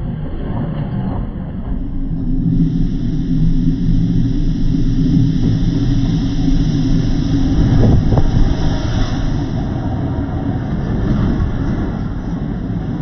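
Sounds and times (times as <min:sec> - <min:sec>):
diesel locomotive engine rumble: 0:00.0 - 0:13.0
wheels hissing on rail: 0:01.7 - 0:13.0.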